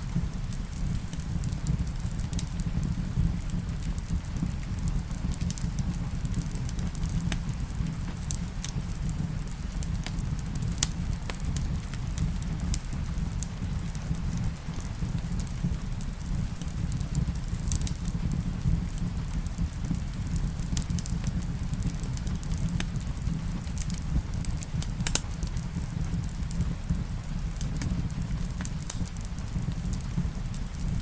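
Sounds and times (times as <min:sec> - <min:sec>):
rain on a roof: 0:00.0 - 0:31.0
wood fire crackling: 0:00.0 - 0:31.0.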